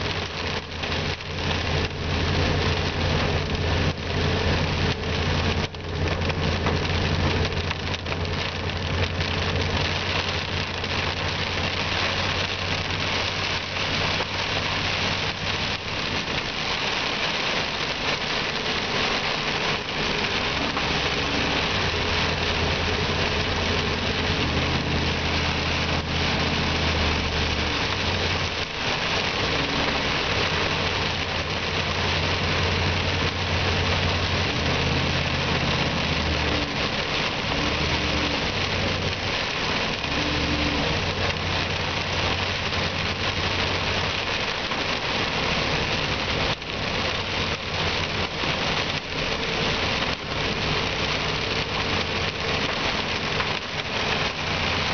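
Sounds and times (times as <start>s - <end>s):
car engine low hum: 0.0s - 54.9s
heavy rain on a car: 0.0s - 54.9s.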